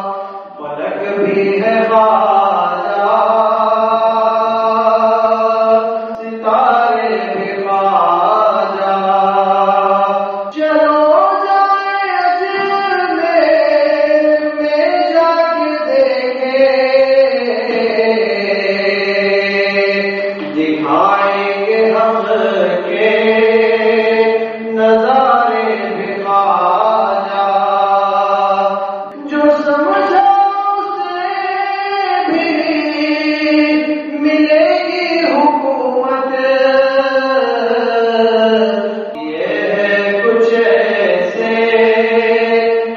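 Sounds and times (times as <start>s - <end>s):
person chanting unaccompanied: 0.0s - 42.9s.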